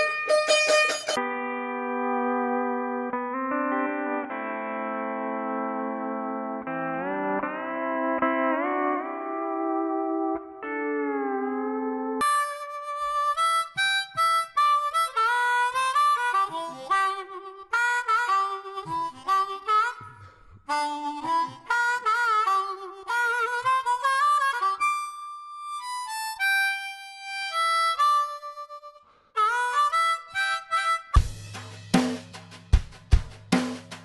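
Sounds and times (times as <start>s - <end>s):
harmonica melody: 0.0s - 31.5s.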